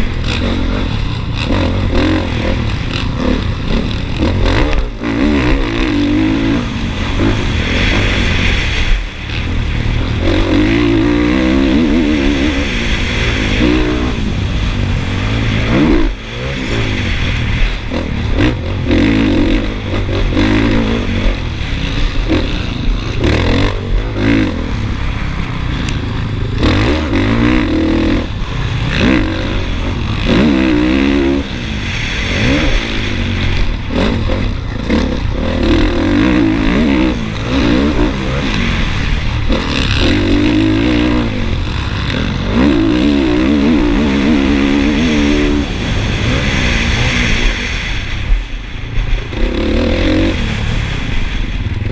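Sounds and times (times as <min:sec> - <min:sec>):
motocross bike engine revving: 0:00.0 - 0:51.9
wind rumble on microphone: 0:00.0 - 0:51.9.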